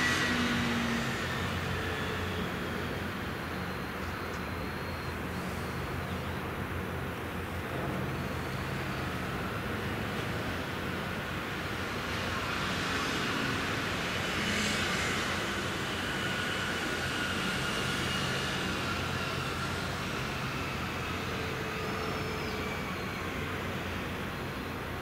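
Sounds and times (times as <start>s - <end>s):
distant engine drone: 0.0s - 25.0s.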